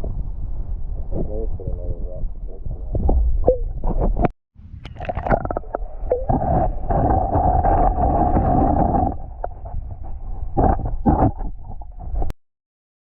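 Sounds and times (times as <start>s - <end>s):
muffled underwater gurgling: 0.0s - 12.3s.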